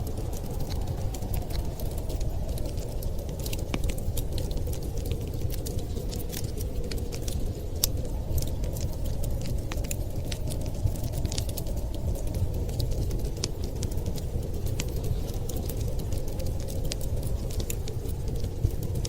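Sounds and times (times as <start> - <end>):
fire crackling and popping: 0.0 - 19.0
wind rushing: 0.0 - 19.0.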